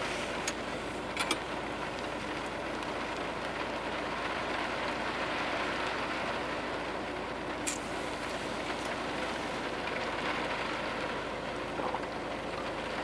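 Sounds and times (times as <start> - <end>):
heavy rain on car roof: 0.0 - 13.0.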